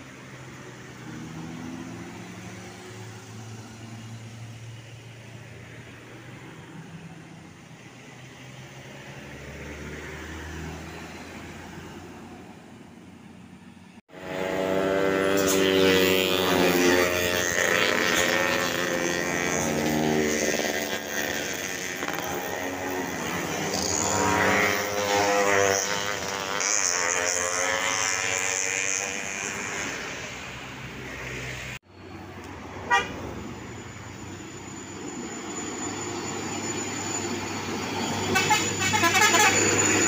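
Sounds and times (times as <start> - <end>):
diesel truck passing close by: 0.0 - 40.0.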